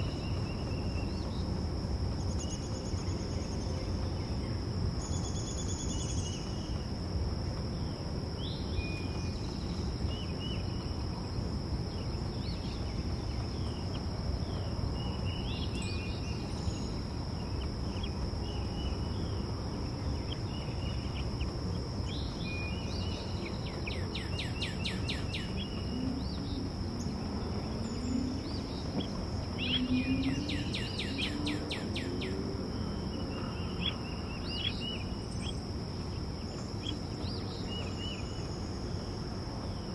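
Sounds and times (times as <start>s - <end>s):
high insect drone: 0.0s - 39.9s
low background rumble: 0.0s - 39.9s
songbirds chirping: 0.0s - 39.9s.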